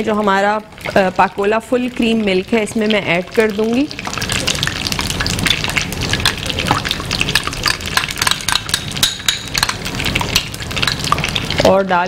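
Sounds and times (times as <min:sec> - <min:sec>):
bread sizzling in hot oil: 0:00.0 - 0:12.0.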